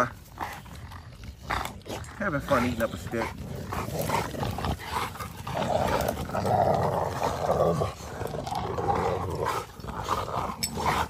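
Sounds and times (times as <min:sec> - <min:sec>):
dogs growling in play: 0:00.0 - 0:11.0.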